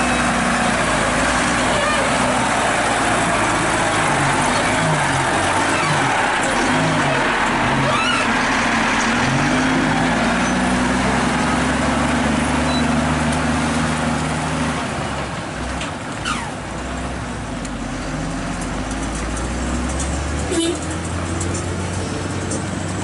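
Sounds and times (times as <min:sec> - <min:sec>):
truck diesel engine: 0:00.0 - 0:23.0
tyres on dirt road: 0:00.0 - 0:23.0.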